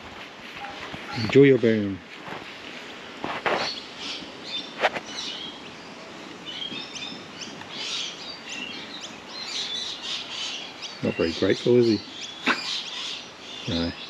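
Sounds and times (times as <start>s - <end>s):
faint outdoor background: 0.0s - 14.0s
small birds chirping: 0.4s - 14.0s.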